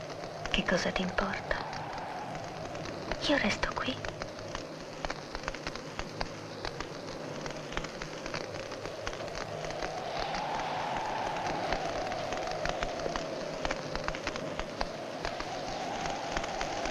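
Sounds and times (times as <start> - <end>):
crackling hiss with clicks: 0.0 - 16.9
hum: 0.0 - 16.9.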